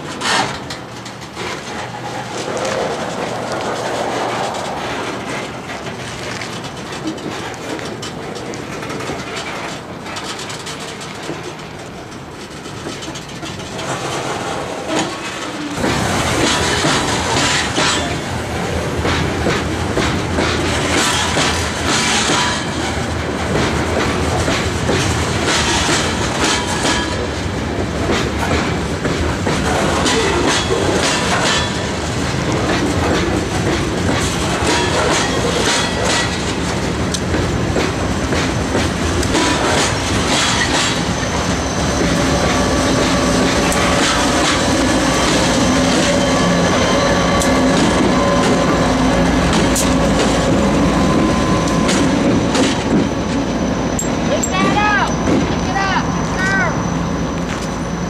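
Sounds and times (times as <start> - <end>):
freight train wheels clicking: 0.0 - 58.0.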